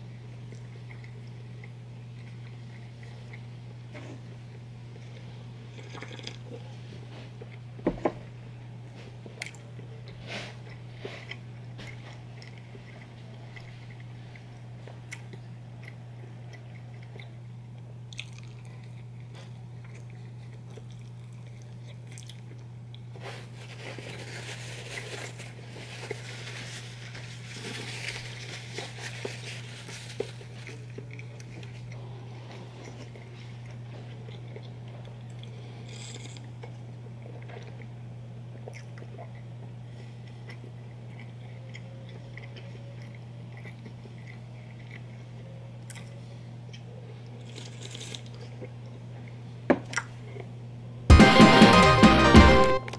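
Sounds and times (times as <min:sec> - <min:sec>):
chewing food: 0:00.0 - 0:50.6.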